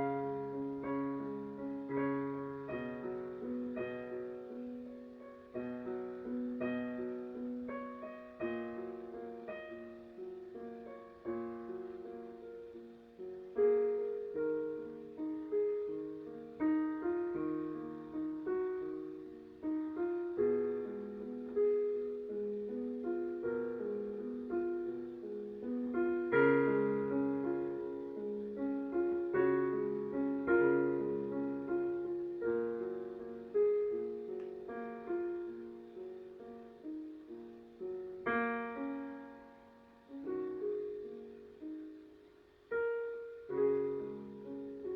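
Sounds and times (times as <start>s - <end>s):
solo piano playing: 0.0s - 44.9s.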